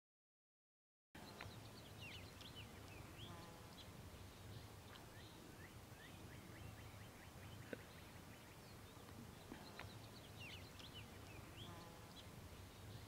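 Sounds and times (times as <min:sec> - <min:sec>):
small birds chirping and whistling: 0:01.2 - 0:13.0.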